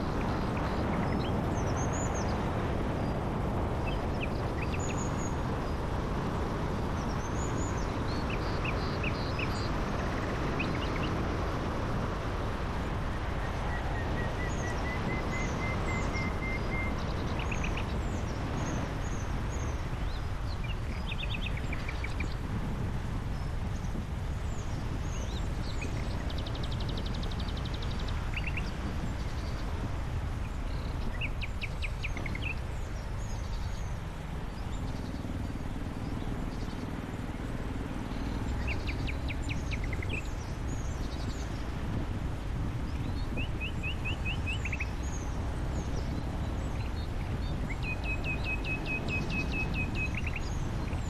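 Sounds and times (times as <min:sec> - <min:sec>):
small birds singing: 0:00.0 - 0:51.0.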